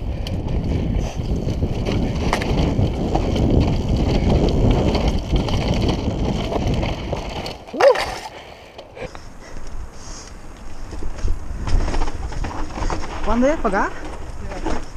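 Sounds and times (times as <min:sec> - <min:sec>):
wind buffeting microphone: 0:00.0 - 0:08.2, 0:10.6 - 0:14.9
bike tyres clattering on rough ground: 0:00.0 - 0:09.1, 0:10.6 - 0:14.9.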